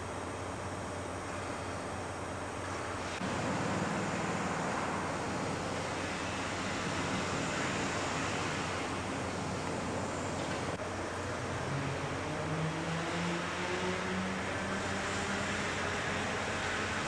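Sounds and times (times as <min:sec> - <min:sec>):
rushing machinery hum: 0:00.0 - 0:17.0.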